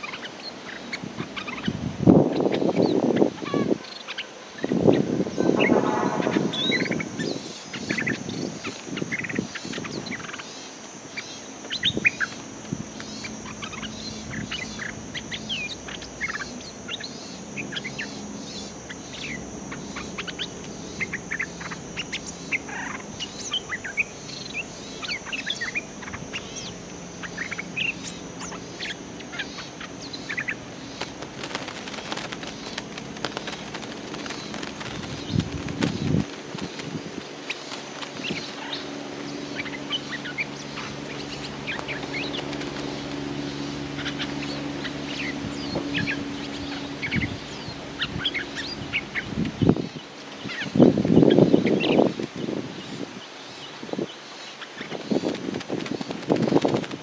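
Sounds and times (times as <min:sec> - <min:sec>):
bulbuls calling: 0:00.0 - 0:57.0
steady high hiss: 0:00.0 - 0:57.0.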